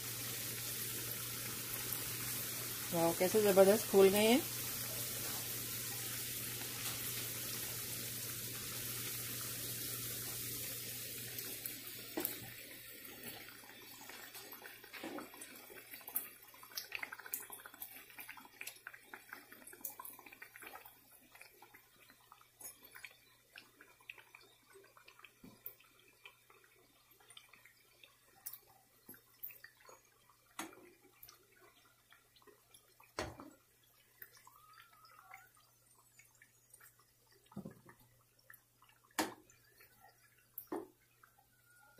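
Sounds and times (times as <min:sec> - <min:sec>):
food deep-frying in oil: 0:00.0 - 0:41.9.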